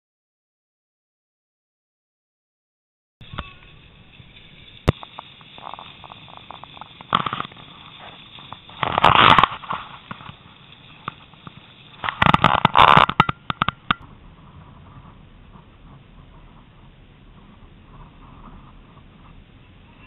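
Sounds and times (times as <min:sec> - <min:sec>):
crackling bursts: 0:03.2 - 0:20.0
sled runners scraping on snow: 0:03.2 - 0:20.0.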